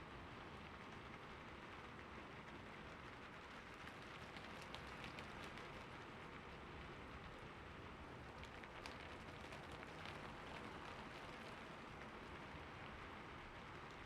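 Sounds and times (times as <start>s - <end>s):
steady rain patter: 0.0s - 14.0s.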